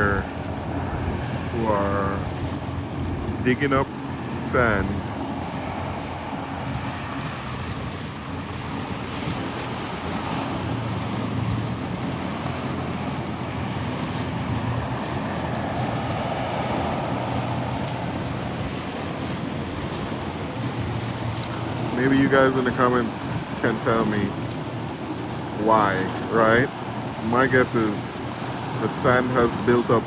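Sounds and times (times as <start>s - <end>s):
boat engine hum: 0.0s - 30.0s
surf: 0.0s - 30.0s
wind on microphone: 0.0s - 30.0s.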